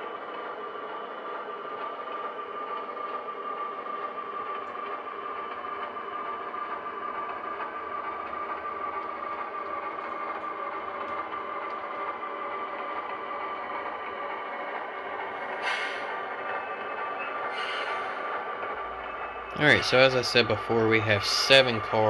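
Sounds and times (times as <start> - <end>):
model locomotive humming: 0.0 - 22.0.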